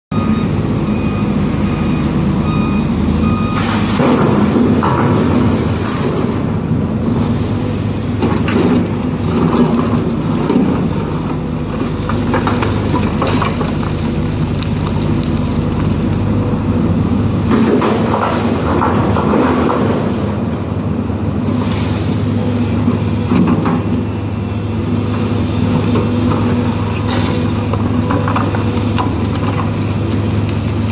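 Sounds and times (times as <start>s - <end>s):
excavator diesel engine running: 0.1s - 30.9s
clanking and scraping earth: 3.4s - 7.5s, 8.1s - 24.1s, 24.9s - 30.9s.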